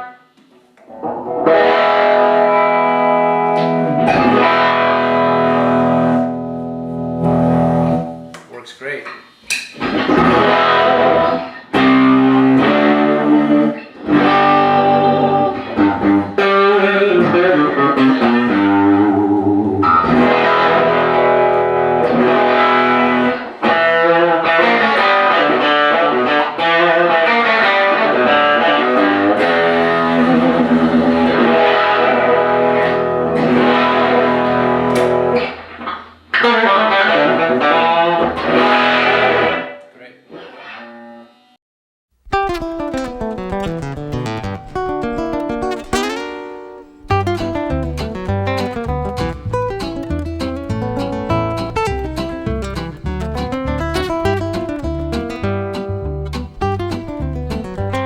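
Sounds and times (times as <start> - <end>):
electric guitar through amplifier: 0.0 - 8.3, 9.8 - 41.4, 42.3 - 58.0.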